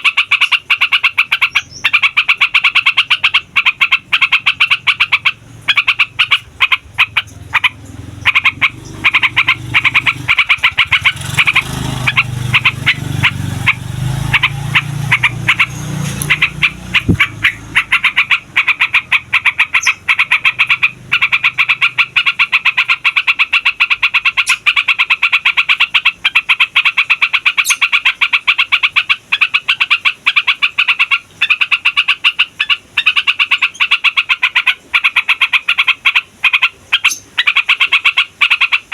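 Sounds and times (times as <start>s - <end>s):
bulbul singing rapid chattering: 0.0s - 38.9s.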